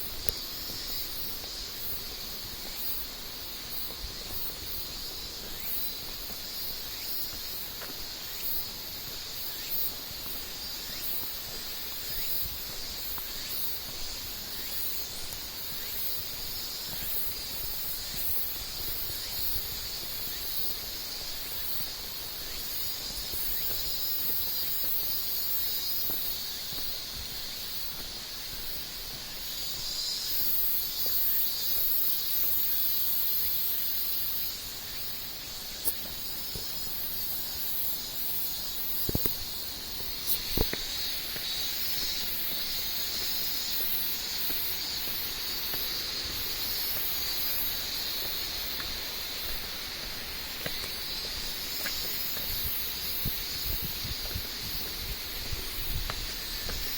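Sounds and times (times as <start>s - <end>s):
high pulsing insect trill: 0.0s - 56.9s
insects chirring: 0.0s - 56.9s.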